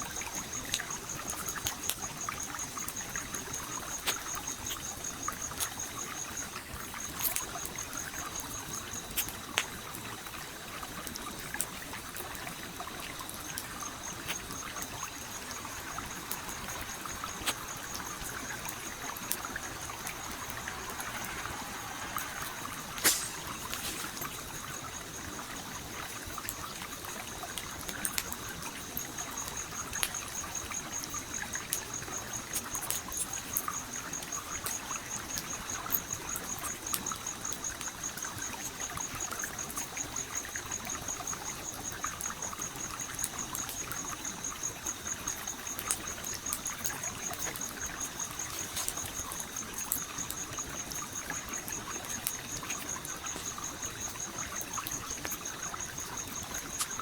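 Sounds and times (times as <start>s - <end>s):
campfire crackling and popping: 0.0s - 57.0s
flowing stream: 0.0s - 57.0s.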